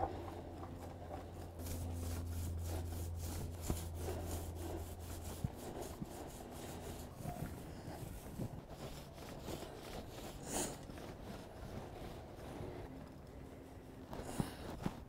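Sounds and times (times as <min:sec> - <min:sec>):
low steady hum: 0:00.0 - 0:15.0
paint roller scrubbing concrete: 0:00.0 - 0:15.0.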